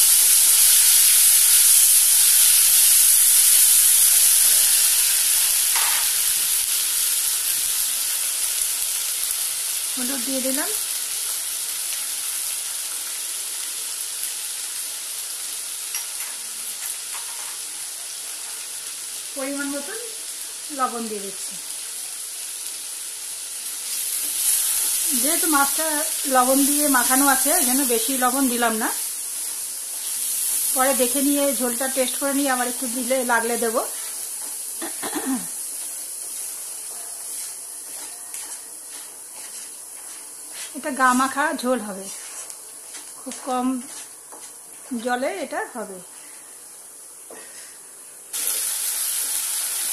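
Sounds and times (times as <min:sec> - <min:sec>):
paste sizzling in oil: 0:00.0 - 0:49.9.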